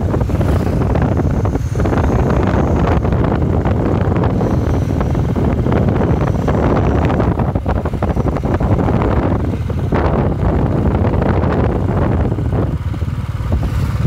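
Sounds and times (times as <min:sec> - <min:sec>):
motorbike running noise: 0:00.0 - 0:14.0
wind rumble on microphone: 0:00.0 - 0:14.0.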